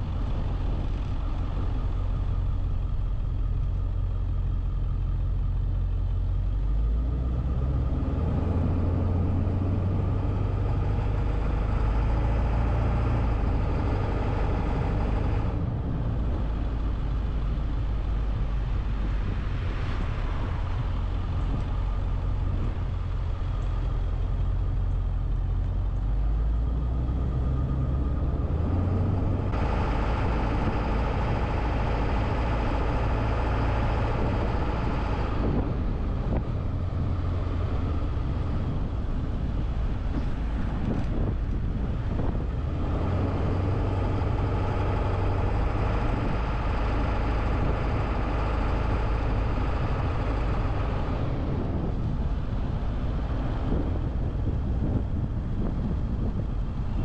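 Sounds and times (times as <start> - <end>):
car engine rumble: 0.0 - 57.0
tyre and road noise: 0.0 - 57.0.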